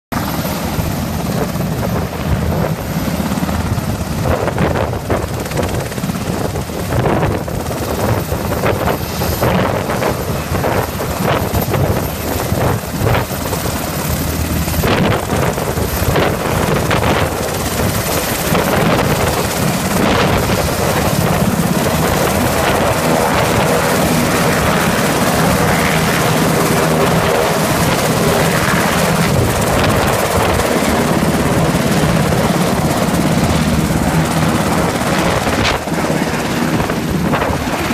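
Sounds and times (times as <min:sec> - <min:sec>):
helicopter rotors beating: 0:00.1 - 0:37.9
turbine engine whine: 0:00.1 - 0:37.9.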